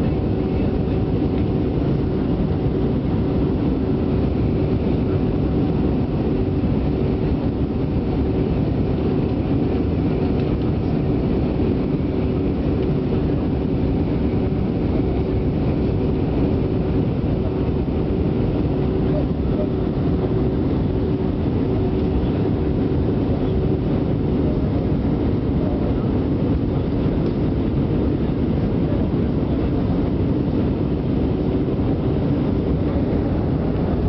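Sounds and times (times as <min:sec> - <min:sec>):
airliner cabin engine noise: 0:00.0 - 0:34.0.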